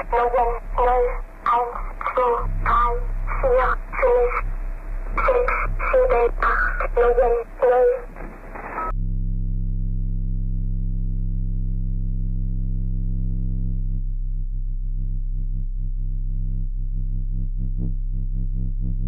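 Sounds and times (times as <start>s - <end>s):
low electronic hum: 0.0s - 19.0s.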